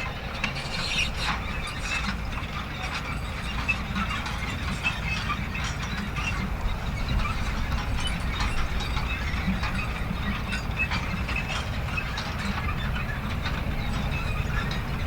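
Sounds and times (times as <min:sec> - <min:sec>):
machine low rumble: 0:00.0 - 0:15.0
metallic clanking and rattling: 0:00.0 - 0:15.0.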